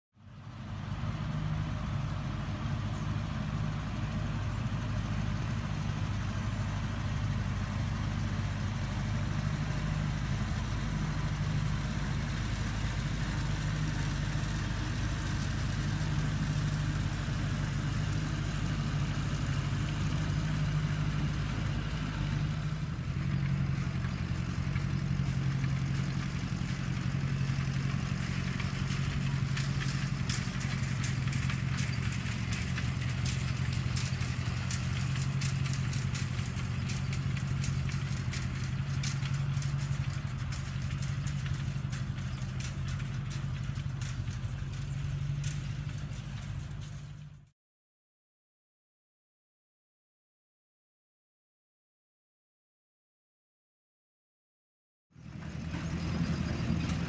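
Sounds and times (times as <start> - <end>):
tractor engine running: 0.2 - 47.5, 55.2 - 57.0.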